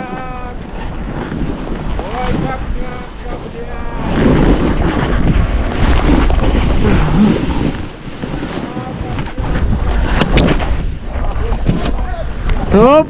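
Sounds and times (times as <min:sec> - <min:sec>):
snowboard sliding through snow: 0:00.0 - 0:11.5
wind buffeting microphone: 0:00.0 - 0:13.0.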